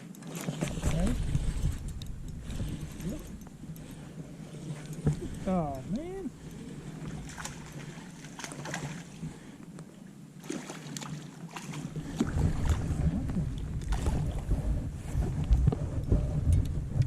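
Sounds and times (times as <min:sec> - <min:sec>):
wind buffeting microphone: 0:00.5 - 0:09.5, 0:11.9 - 0:17.0.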